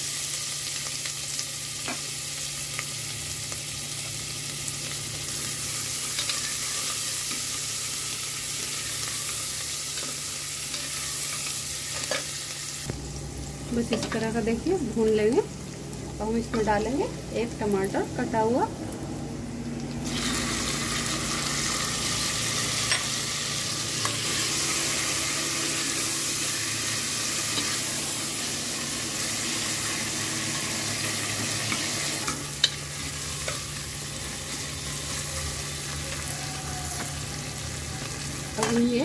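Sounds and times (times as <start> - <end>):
tomatoes sizzling in hot oil: 0.0 - 39.0.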